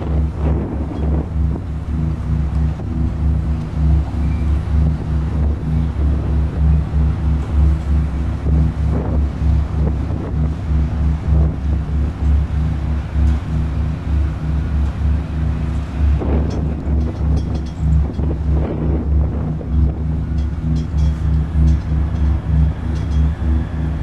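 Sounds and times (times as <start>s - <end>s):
steady hum of several tones: 0.0s - 24.0s
synthetic low rumbling drone: 0.0s - 24.0s.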